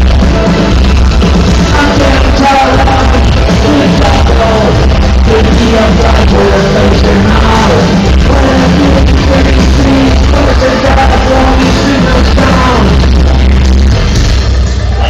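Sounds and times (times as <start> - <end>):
industrial band playing live: 0.0 - 15.0.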